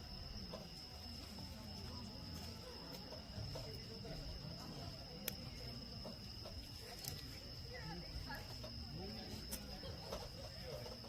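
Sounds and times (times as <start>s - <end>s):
crickets chirring: 0.0s - 11.0s
faint voices: 0.0s - 11.0s.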